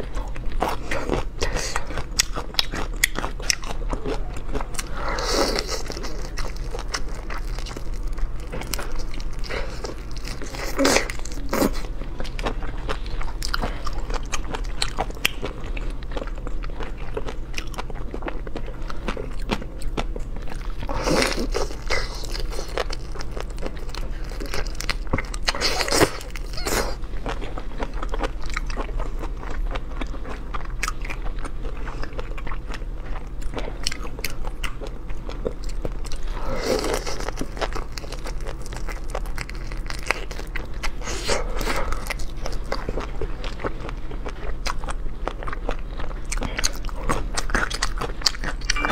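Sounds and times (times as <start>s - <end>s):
crunching and chewing food: 0.0s - 48.9s
low steady hum: 0.0s - 48.9s.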